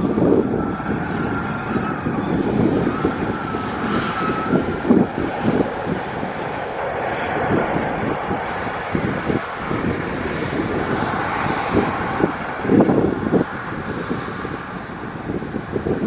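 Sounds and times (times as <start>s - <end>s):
jet engines at taxi power: 0.0s - 16.0s
wind buffeting microphone: 0.0s - 16.0s.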